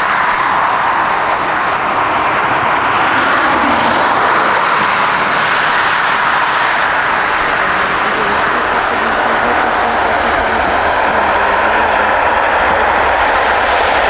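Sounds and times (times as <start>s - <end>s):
jet engines passing: 0.0s - 14.0s.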